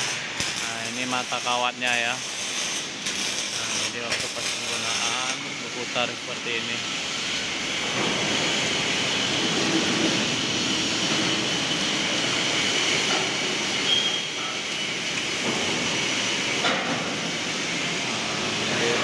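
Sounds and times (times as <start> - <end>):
machinery hum and hiss: 0.0 - 19.0.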